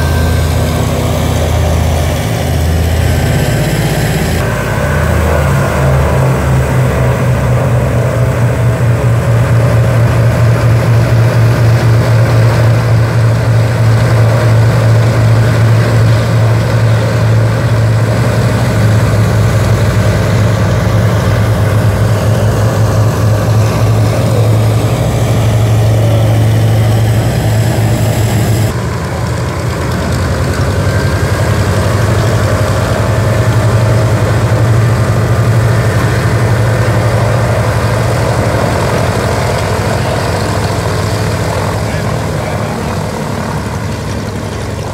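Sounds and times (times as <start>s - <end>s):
aircraft radial engines droning: 0.0s - 44.9s.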